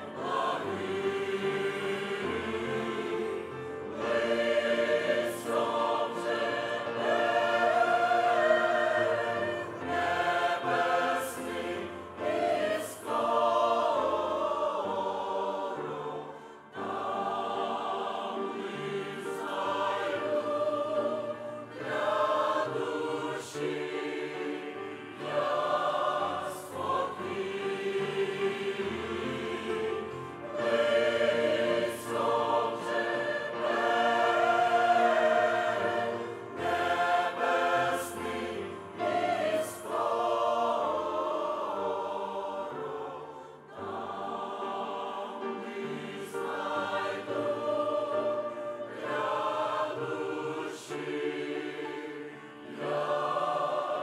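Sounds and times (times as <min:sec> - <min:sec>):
mixed choir singing a hymn: 0:00.0 - 0:54.0.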